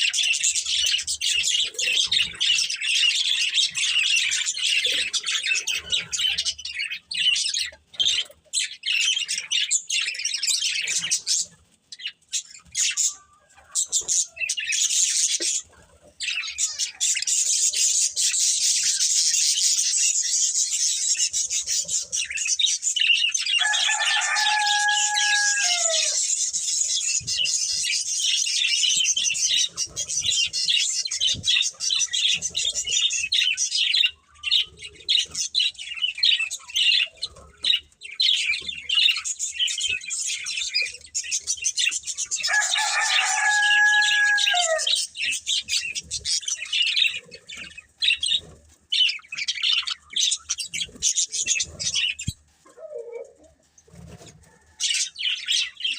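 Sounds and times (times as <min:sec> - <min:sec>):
budgerigars chirping and chattering: 0:00.0 - 0:55.9.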